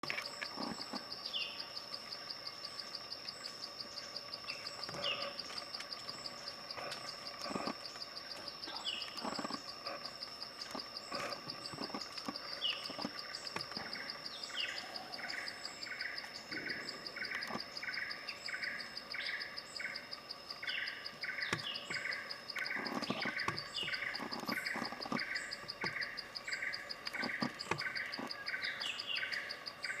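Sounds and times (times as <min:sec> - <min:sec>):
bird singing repeated notes: 0:00.0 - 0:30.0
high insect trill: 0:00.0 - 0:30.0.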